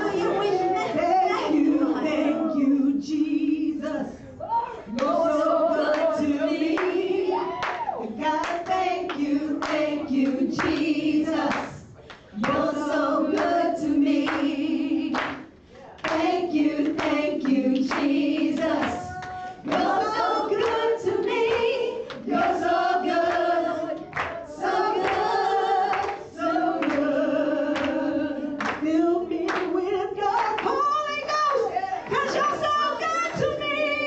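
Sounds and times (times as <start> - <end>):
women singing worship song: 0.0 - 34.0.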